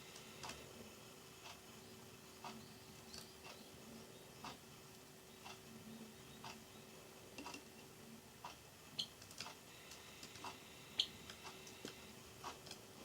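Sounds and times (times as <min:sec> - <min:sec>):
faint clock ticking: 0:00.0 - 0:13.0.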